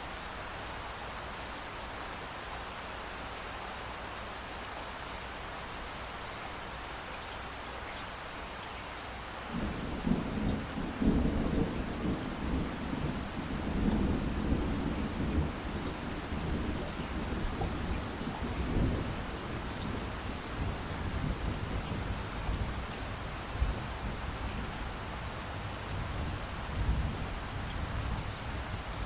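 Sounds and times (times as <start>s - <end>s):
rushing water hiss: 0.0s - 29.0s.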